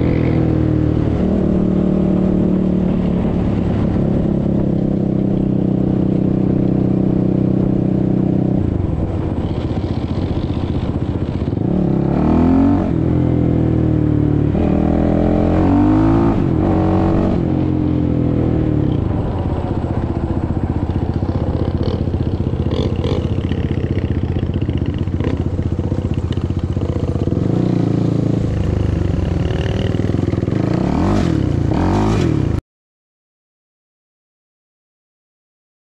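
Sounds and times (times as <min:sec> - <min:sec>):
quad bike engine revving: 0:00.0 - 0:32.6.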